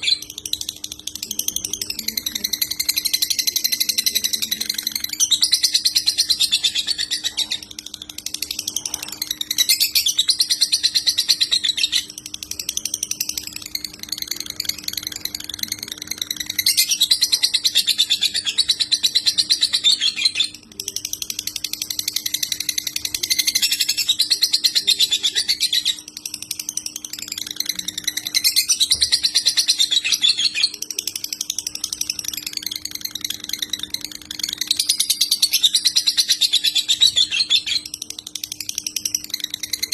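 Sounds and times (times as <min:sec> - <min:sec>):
lovebird fast chattering trill: 0:00.0 - 0:39.9
steady low hum: 0:00.0 - 0:39.9.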